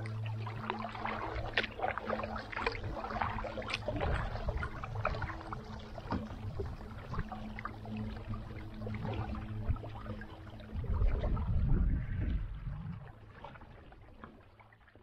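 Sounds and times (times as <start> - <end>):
steady low hum: 0.0 - 13.4
paddle splashes and drips: 0.0 - 15.0.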